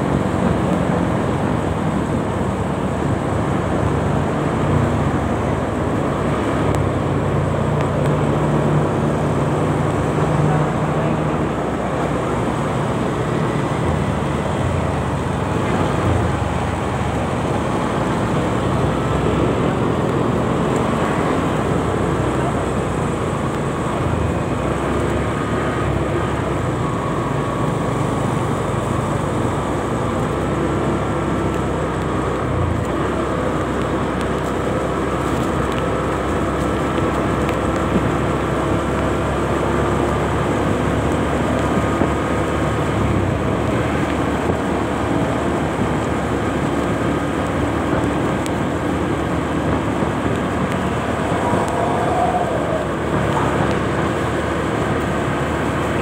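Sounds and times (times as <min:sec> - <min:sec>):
motorcycle riding roar: 0:00.0 - 0:56.0
surrounding traffic: 0:00.0 - 0:56.0.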